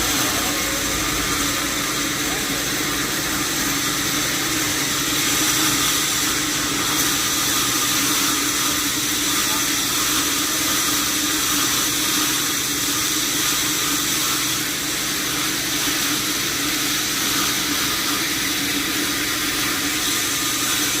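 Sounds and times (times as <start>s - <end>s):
motor hum: 0.0s - 21.0s.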